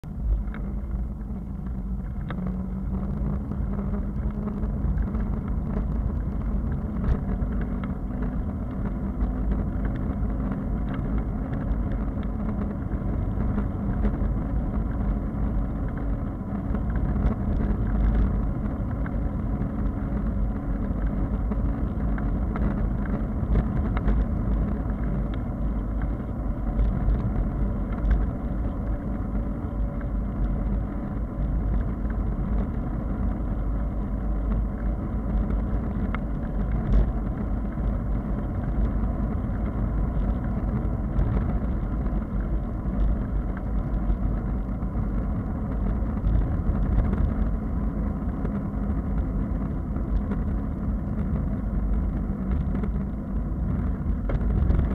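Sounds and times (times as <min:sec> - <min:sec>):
bicycle tyres rolling on wet asphalt: 0:00.0 - 0:54.9
low wind rumble on microphone: 0:00.0 - 0:54.9.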